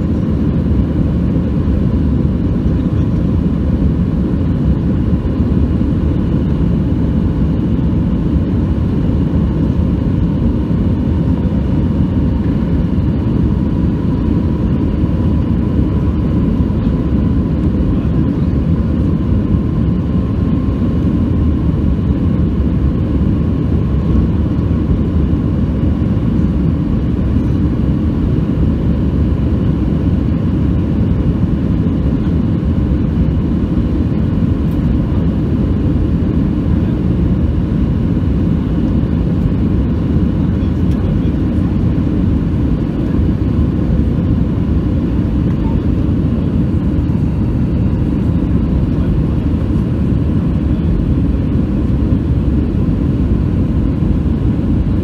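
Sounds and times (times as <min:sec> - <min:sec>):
faint steady whine: 0:00.0 - 0:55.0
jet engine roar in cabin: 0:00.0 - 0:55.0.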